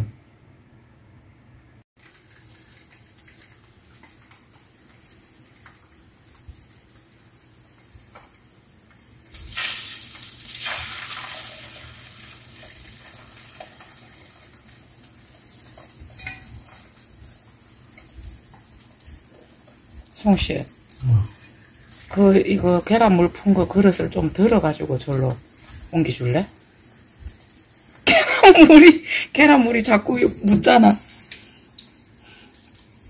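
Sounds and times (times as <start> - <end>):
meat sizzling in a frying pan: 2.0 - 33.0.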